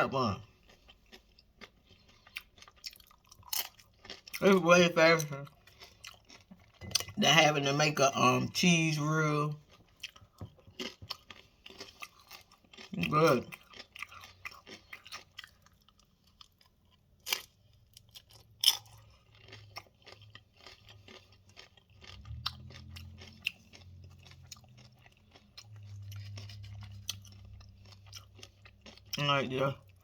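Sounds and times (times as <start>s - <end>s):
person chewing crunchy chips: 0.0s - 30.0s.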